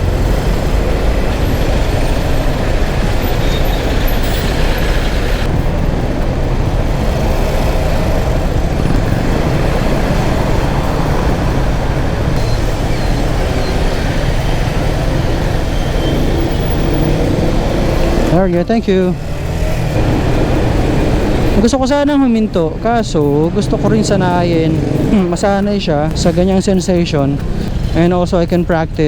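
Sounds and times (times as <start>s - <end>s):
wind rushing: 0.0s - 28.0s
heavy traffic: 0.0s - 29.0s
motorcycle engine: 0.0s - 29.0s.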